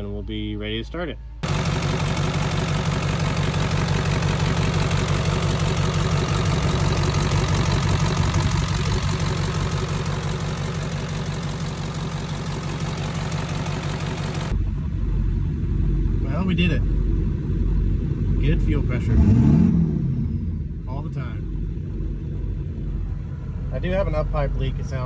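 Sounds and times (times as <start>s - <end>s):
diesel engine idling: 1.2s - 19.3s, 20.1s - 25.0s.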